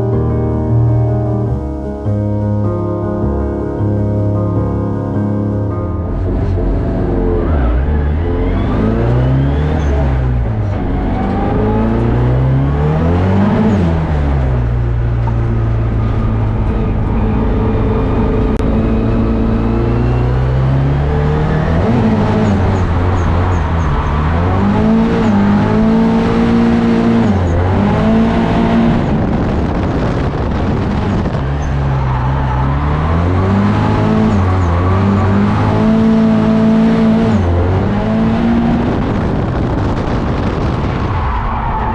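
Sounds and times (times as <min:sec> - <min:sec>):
car engine revving hard: 0:06.0 - 0:41.9.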